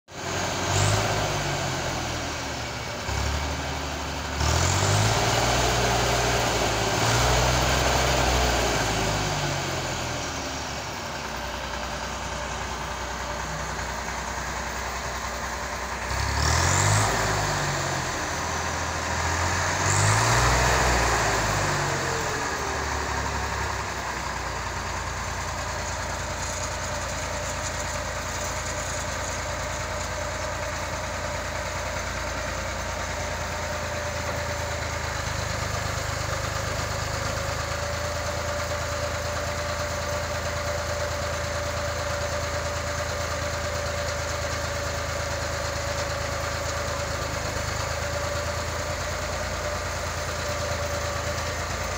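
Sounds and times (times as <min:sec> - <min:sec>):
tractor diesel engine revving: 0:00.1 - 0:51.9.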